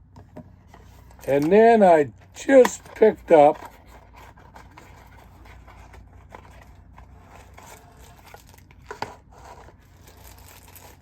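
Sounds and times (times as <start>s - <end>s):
low steady hum: 0.0s - 11.0s
rustling handling noise: 0.1s - 11.0s.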